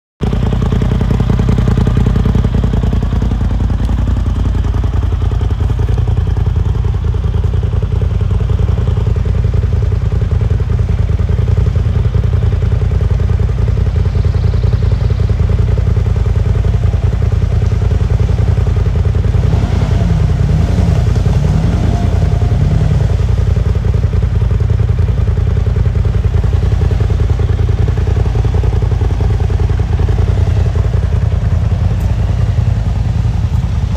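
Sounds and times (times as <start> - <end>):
vehicle engine droning: 0.2 - 33.9.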